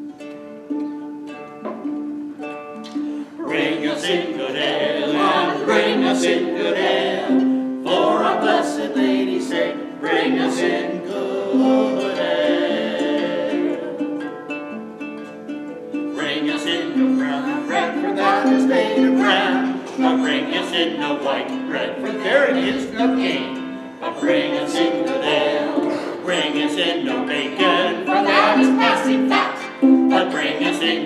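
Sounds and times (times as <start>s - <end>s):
held string notes: 0.0s - 31.0s
plucked harp notes: 0.0s - 31.0s.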